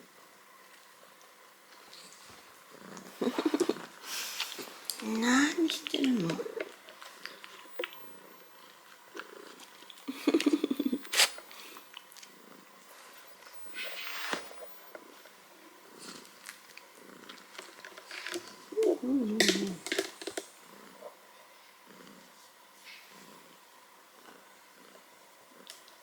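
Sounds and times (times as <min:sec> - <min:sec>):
cat purring: 0:00.1 - 0:26.0.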